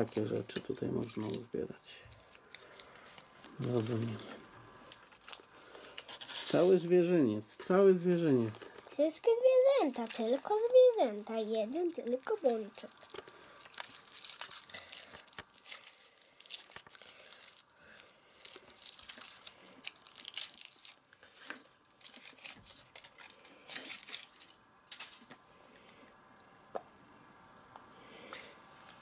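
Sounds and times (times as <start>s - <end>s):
foil wrapper crinkling: 0.0s - 25.4s.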